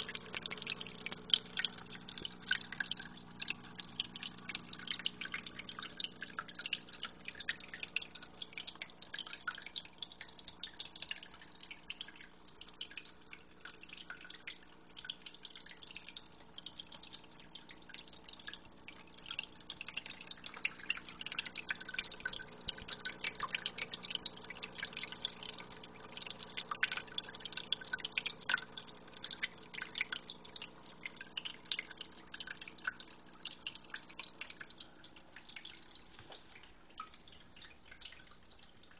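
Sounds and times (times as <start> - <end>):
small waterfall trickling over rock: 0.0 - 38.9
steady low hum: 0.0 - 38.9
water drips and splashes: 0.0 - 38.9.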